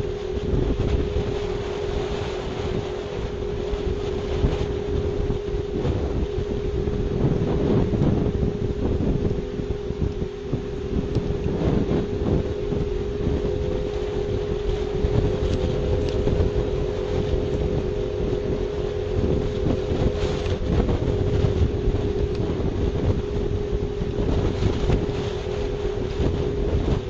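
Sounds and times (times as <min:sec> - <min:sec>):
steady hum: 0:00.0 - 0:27.0
wind rumbling on microphone: 0:00.0 - 0:27.0.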